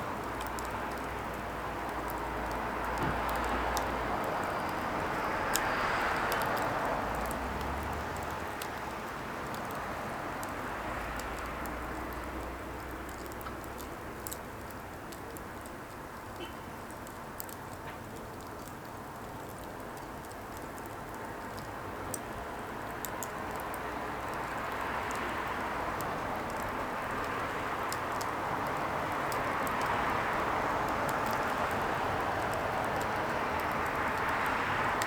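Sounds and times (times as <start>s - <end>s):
fire crackling and popping: 0.0s - 35.0s
firewood burning with rushing hiss: 0.0s - 35.0s.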